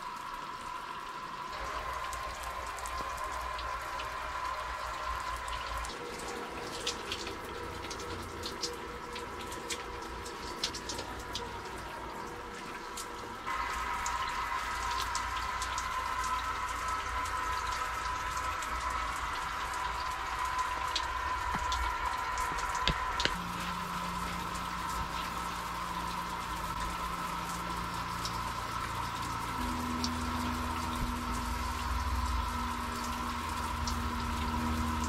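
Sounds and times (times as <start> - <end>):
shower water splashing on wood: 1.5 - 35.0
water drips and taps: 1.5 - 35.0.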